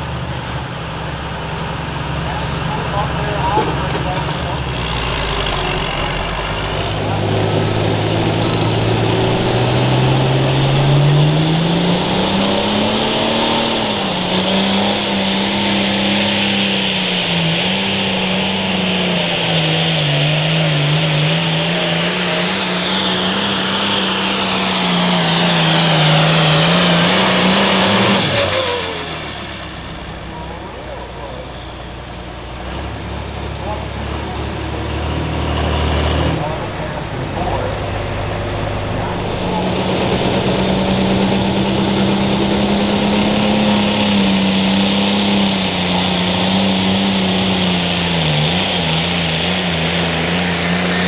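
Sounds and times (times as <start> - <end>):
diesel engine at full load: 0.0 - 51.0.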